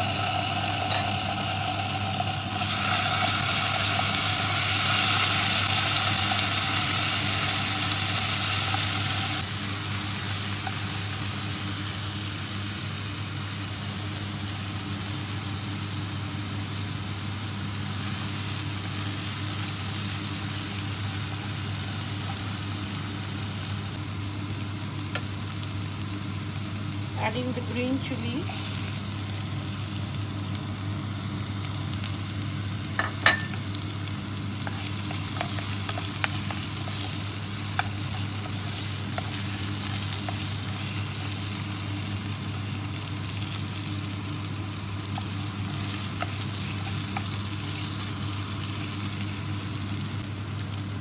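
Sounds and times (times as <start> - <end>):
spices sizzling in oil: 0.0 - 51.0.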